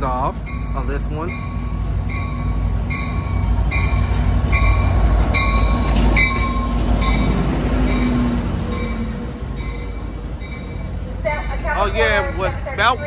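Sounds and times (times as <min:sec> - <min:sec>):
locomotive bell ringing: 0:00.0 - 0:13.0
train rolling with low rumble: 0:00.0 - 0:13.0.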